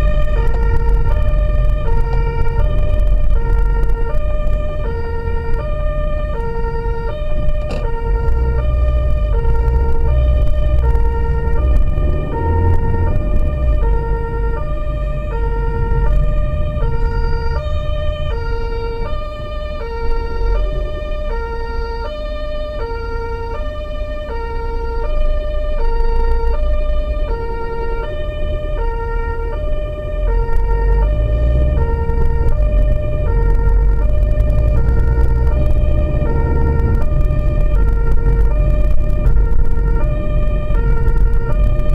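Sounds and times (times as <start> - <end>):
two-tone emergency siren: 0.0 - 41.9
vehicle engine and road rumble: 0.0 - 41.9.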